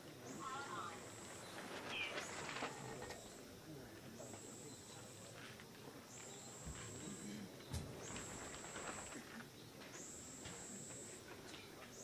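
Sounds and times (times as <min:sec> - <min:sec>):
faint background voices: 0:00.0 - 0:12.0.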